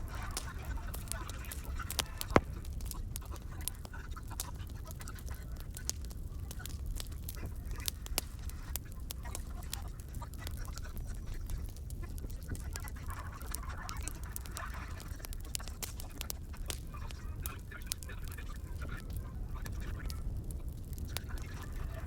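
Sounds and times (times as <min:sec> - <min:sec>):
firewood crackling and popping: 0:00.0 - 0:22.0.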